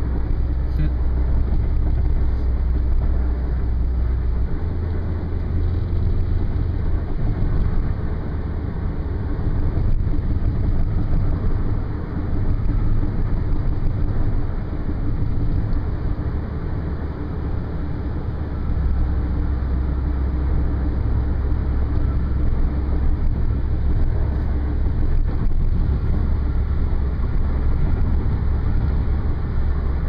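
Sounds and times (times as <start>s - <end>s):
car cabin road noise: 0.0s - 30.0s.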